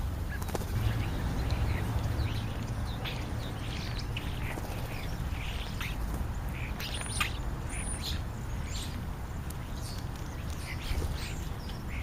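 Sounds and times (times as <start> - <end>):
starlings chattering: 0.0 - 12.0
steady low rumble: 0.0 - 12.0.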